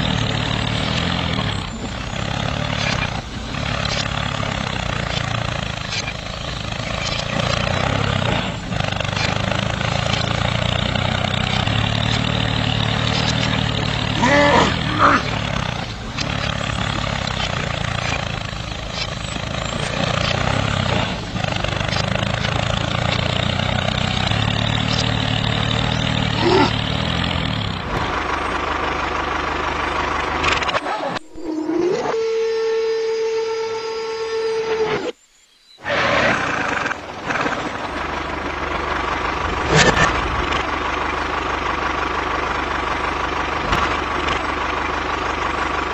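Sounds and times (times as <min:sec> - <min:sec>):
tractor engine chugging: 0:00.0 - 0:31.4, 0:35.9 - 0:45.9.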